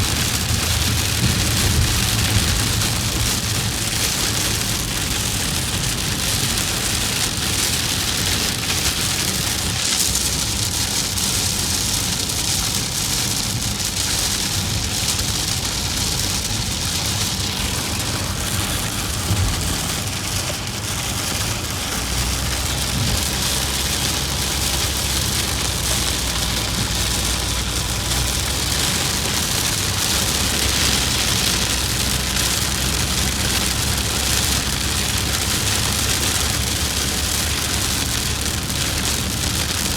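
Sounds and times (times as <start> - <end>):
rain hissing on car: 0.0 - 39.9
road and engine rumble: 0.0 - 39.9.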